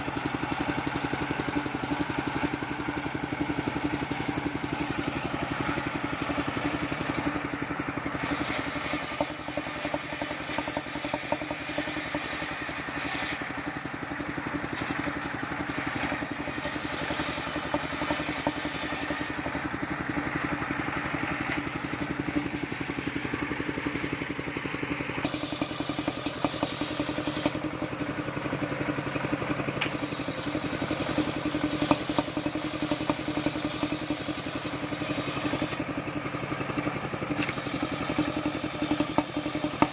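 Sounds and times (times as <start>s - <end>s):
circular saw cutting wood: 0.0s - 24.1s, 25.1s - 28.0s, 29.4s - 35.9s, 36.7s - 39.9s
engine running: 0.0s - 39.9s.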